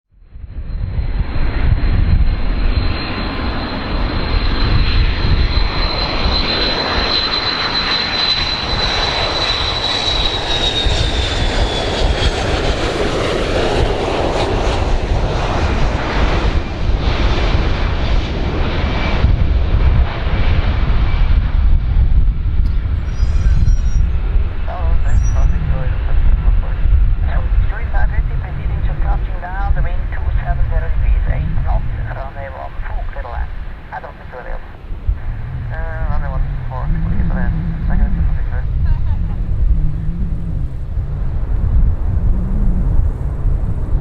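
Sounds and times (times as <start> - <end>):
airplane engines running: 0.2 - 44.0.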